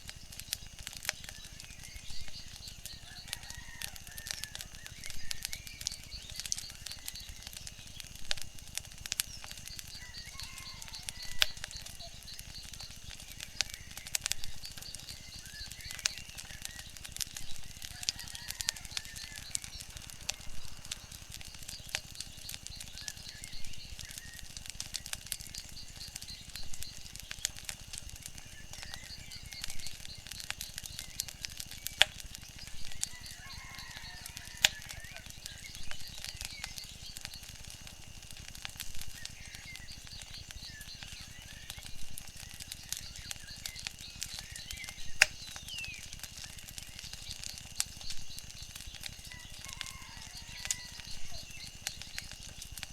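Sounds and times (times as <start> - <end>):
small birds chirping faintly: 0.0 - 52.9
wood fire crackling and popping: 0.0 - 52.9.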